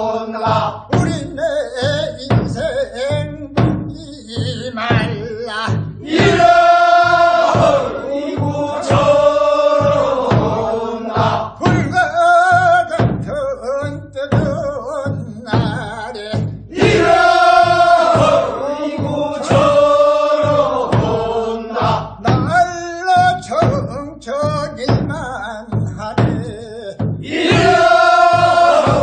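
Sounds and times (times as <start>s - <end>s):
voices singing a work song: 0.0s - 3.7s, 4.4s - 29.0s.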